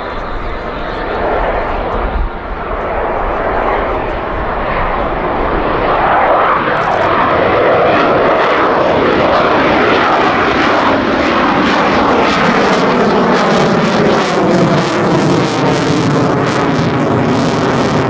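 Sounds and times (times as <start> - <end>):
fighter jet passing overhead: 0.0 - 18.0.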